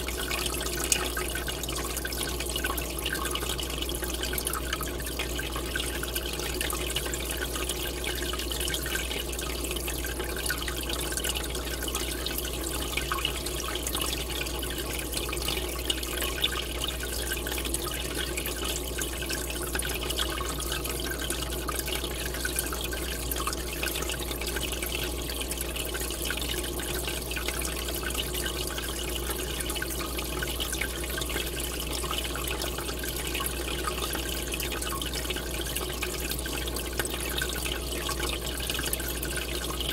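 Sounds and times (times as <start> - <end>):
aquarium air bubbling: 0.0 - 39.9
low steady hum: 0.0 - 39.9.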